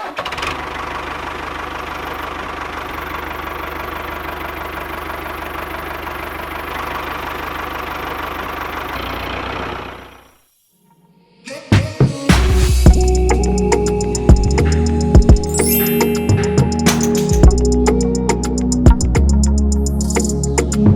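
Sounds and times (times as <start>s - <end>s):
diesel engine idling: 0.3s - 10.3s, 12.9s - 15.6s, 16.2s - 20.9s.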